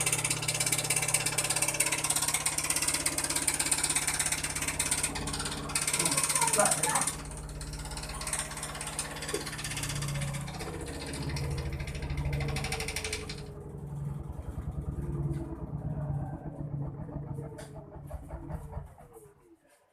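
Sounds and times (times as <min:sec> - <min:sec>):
washing machine motor hum: 0:00.0 - 0:19.4.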